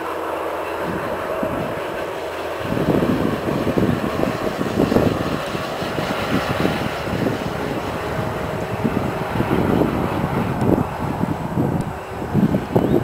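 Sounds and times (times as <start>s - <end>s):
distant machine engines humming: 0.0s - 13.0s
wind buffeting microphone: 0.6s - 13.0s.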